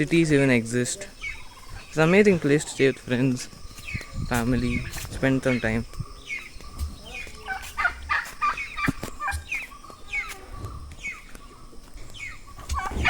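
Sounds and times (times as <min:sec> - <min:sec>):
turkeys calling: 0:00.1 - 0:13.0.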